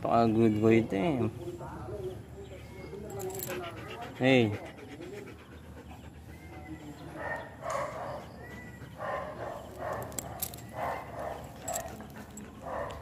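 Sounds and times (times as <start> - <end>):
dog panting: 1.9 - 13.0.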